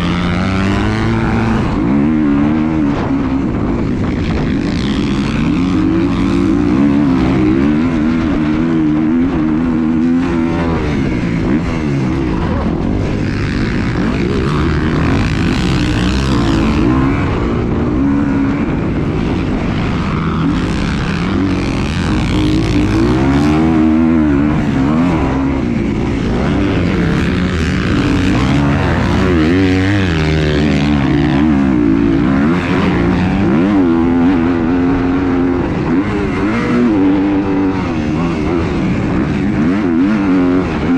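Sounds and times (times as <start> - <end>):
engine running: 0.0 - 40.9
rushing wind noise: 0.0 - 40.9.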